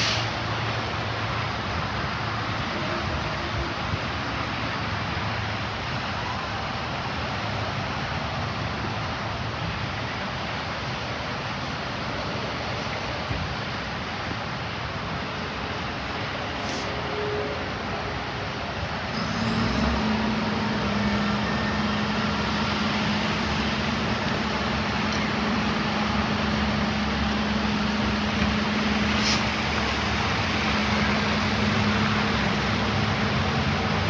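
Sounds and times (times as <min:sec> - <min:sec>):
heavy rain on pavement: 0:00.0 - 0:17.0, 0:20.2 - 0:34.0
heavy vehicle engine humming: 0:00.0 - 0:34.0.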